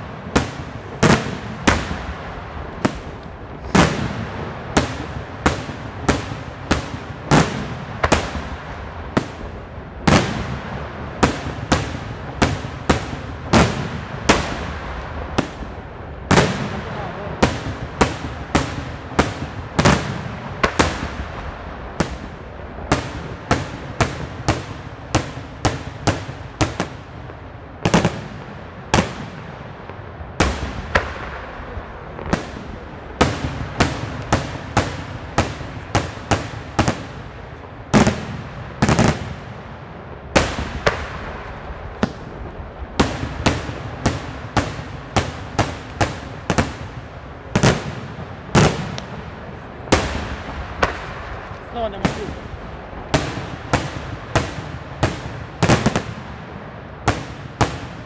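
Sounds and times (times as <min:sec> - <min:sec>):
fireworks bangs with echo: 0:00.0 - 0:58.0.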